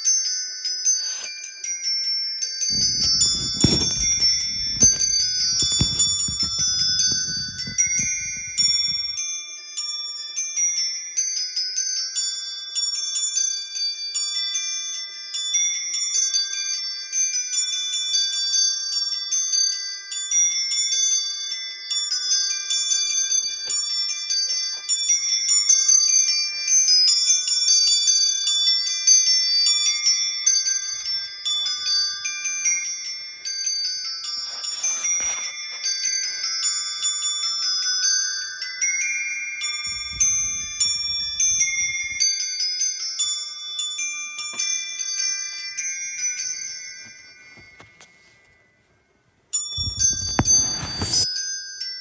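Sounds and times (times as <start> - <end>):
tinkling music box melody: 0.0 - 52.0.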